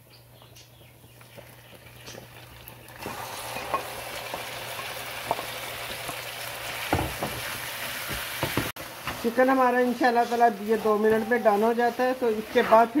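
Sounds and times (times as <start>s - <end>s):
food sizzling in frying pan: 1.3s - 13.0s.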